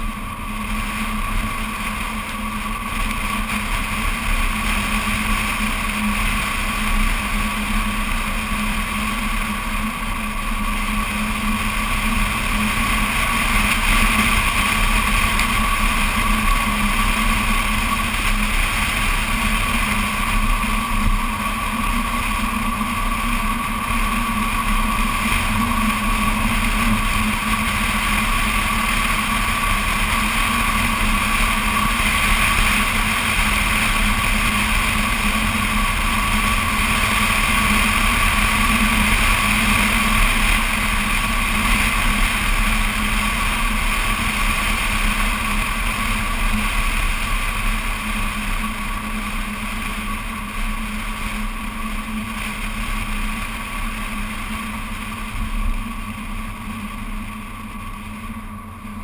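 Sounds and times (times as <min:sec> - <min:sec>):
car engine drone: 0:00.0 - 0:59.0
road noise: 0:00.0 - 0:59.0
wind rushing over camera: 0:00.0 - 0:59.0.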